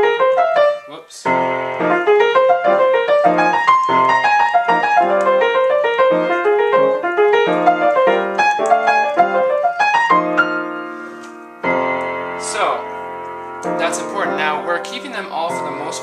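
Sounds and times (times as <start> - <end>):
solo jazz piano: 0.0 - 16.0.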